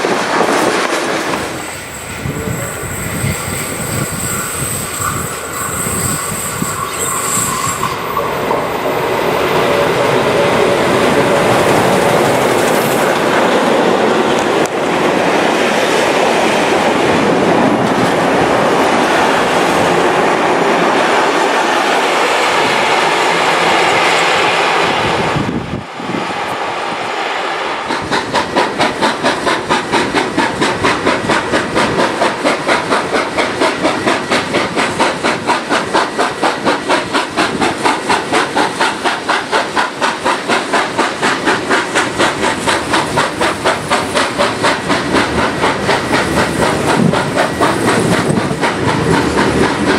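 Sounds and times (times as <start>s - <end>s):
steam locomotive chuffing: 0.0s - 49.9s
train running rushing noise: 0.0s - 49.9s.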